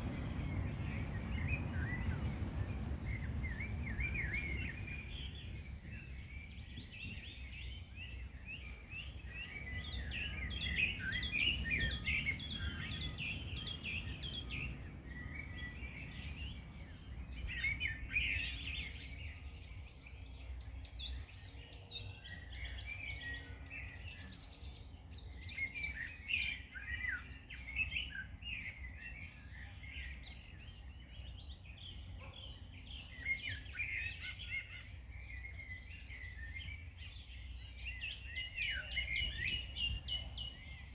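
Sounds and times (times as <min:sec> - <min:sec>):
low wind rumble: 0:00.0 - 0:21.5, 0:22.2 - 0:40.9
birds singing and chirping: 0:00.0 - 0:40.9.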